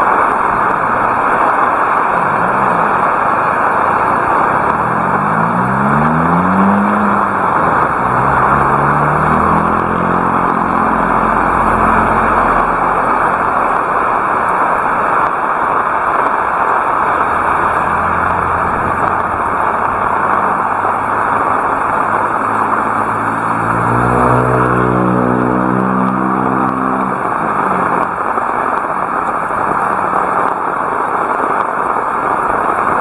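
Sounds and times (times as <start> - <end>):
heavy rain: 0.0 - 33.0
vehicle engine accelerating: 0.0 - 33.0.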